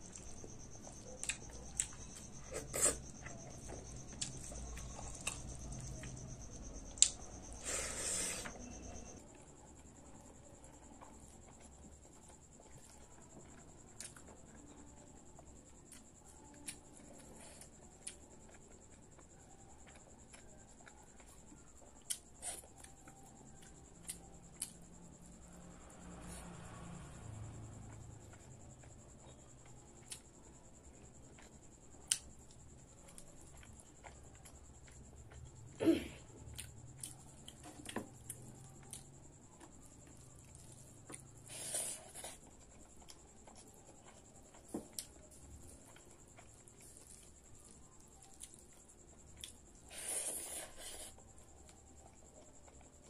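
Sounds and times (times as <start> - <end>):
quiet chewing: 0.0 - 25.1, 27.8 - 53.0.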